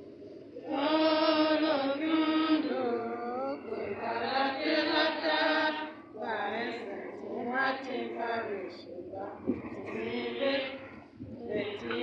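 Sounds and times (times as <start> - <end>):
person singing liturgical chant: 0.0 - 12.0.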